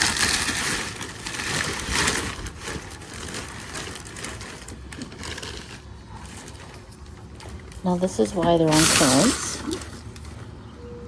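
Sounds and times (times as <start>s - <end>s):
packing material rustling: 0.0s - 10.3s.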